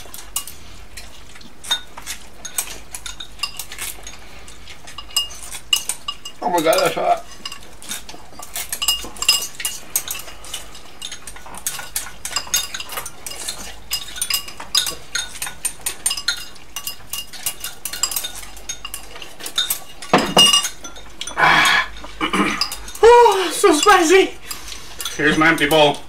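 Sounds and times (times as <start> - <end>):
chopsticks clicking against bowls: 0.0 - 26.0.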